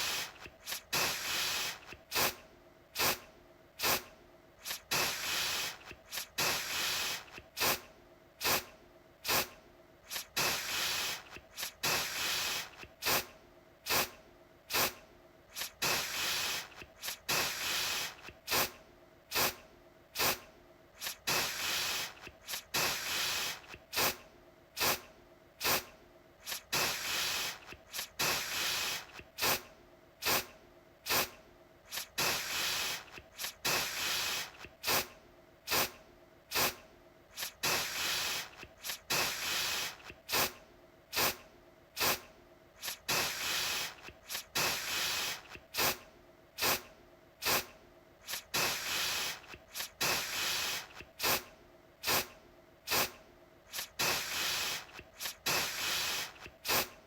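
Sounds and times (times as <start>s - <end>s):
aerosol can spraying: 0.0s - 2.4s, 3.0s - 3.2s, 3.8s - 19.6s, 20.2s - 20.4s, 21.0s - 24.2s, 24.8s - 35.1s, 35.7s - 41.4s, 42.0s - 46.0s, 46.6s - 52.3s, 52.9s - 57.0s.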